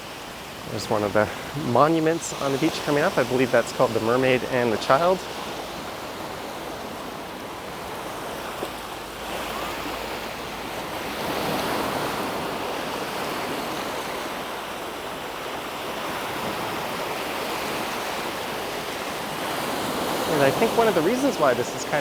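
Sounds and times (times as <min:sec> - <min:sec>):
waves washing on sandy beach: 0:00.0 - 0:22.0.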